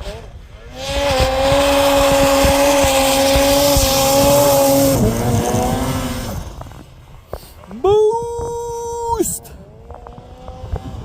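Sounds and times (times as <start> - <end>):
snowmobile engine revving high: 0.0 - 11.0.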